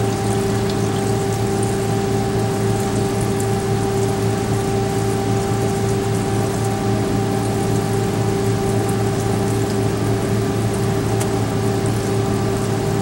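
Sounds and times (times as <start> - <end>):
constant crackling hiss: 0.0 - 13.0
drilling rig engine and pump drone: 0.0 - 13.0.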